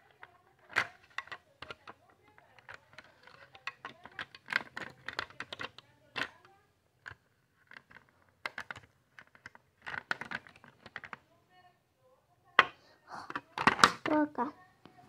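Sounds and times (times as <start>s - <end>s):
plastic items clicking and clattering: 0.0s - 11.2s, 12.6s - 14.5s.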